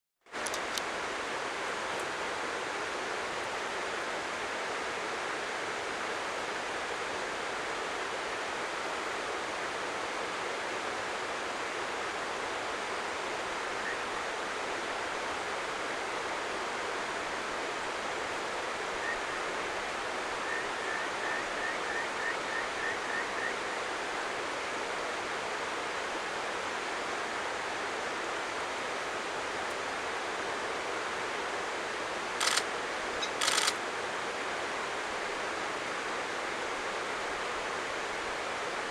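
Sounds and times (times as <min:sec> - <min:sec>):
stream water flowing: 0:00.3 - 0:38.9.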